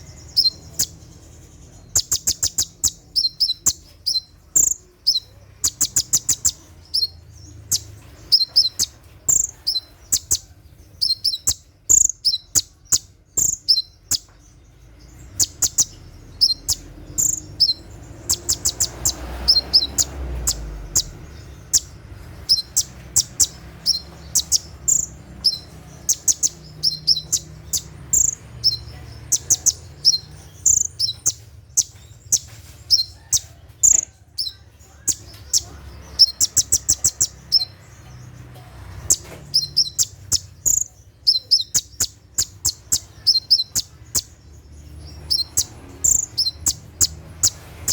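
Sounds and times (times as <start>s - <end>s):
sunbird rapid high-pitched chips: 0.0s - 47.9s.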